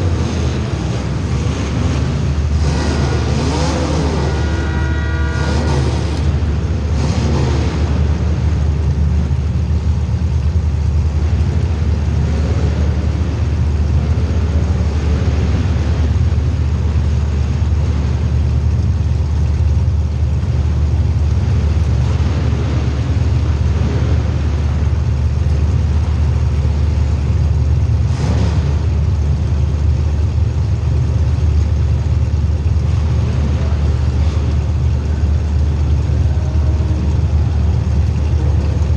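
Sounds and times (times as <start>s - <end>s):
race car engines rumbling: 0.0s - 38.9s.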